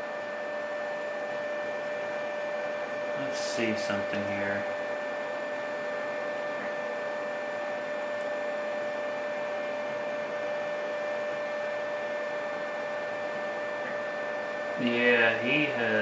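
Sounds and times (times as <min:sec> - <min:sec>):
background hum and hiss: 0:00.0 - 0:16.0
constant high whine: 0:00.0 - 0:16.0.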